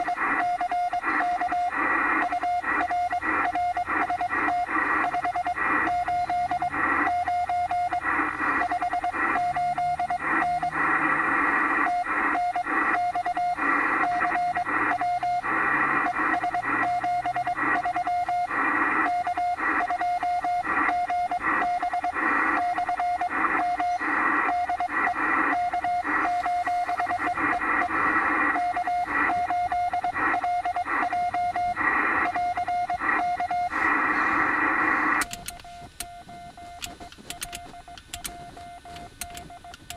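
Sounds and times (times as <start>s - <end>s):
morse code tone pulses: 0.0s - 39.9s
radio static: 0.0s - 39.9s.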